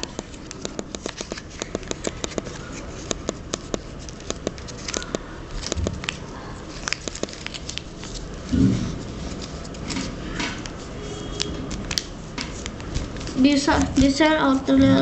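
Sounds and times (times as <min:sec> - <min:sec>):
paper crackling as folded: 0:00.0 - 0:14.8.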